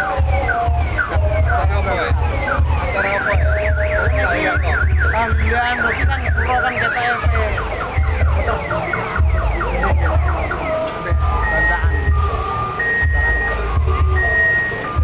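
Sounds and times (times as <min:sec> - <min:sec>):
thumping deep bass beat: 0:00.0 - 0:15.0
warbling electronic siren tone: 0:00.0 - 0:15.0.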